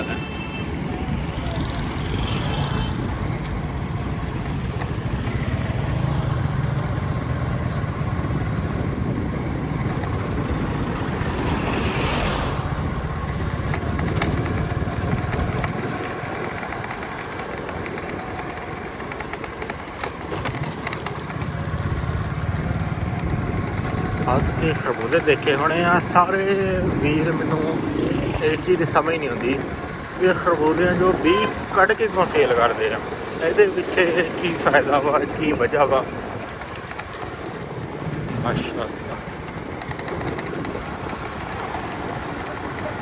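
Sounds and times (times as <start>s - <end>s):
vehicle road and engine noise: 0.0s - 43.0s.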